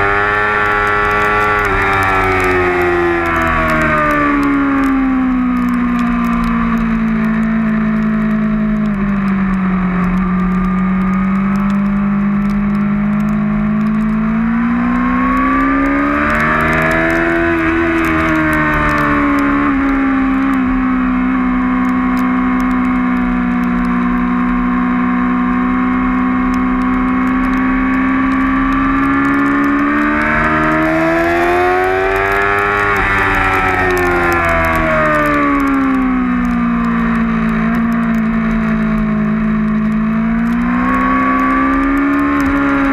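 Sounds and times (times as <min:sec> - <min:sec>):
motorcycle engine at high revs: 0:00.0 - 0:42.9.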